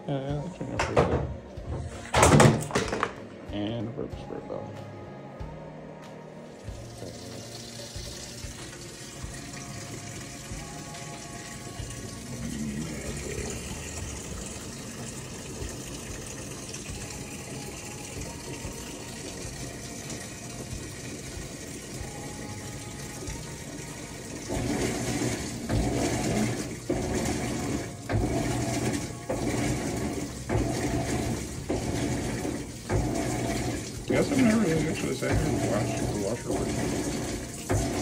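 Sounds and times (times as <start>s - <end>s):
water pouring into washing machine: 6.5s - 38.0s.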